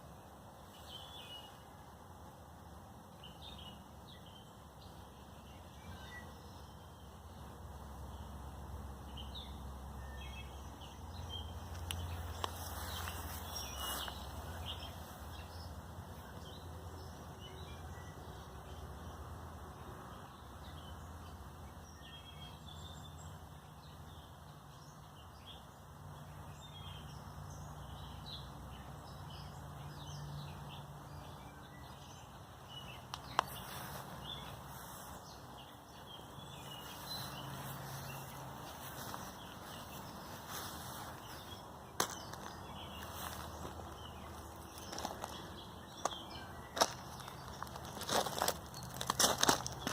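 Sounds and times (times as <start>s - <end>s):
small birds chirping: 0.0s - 19.4s, 20.1s - 49.9s.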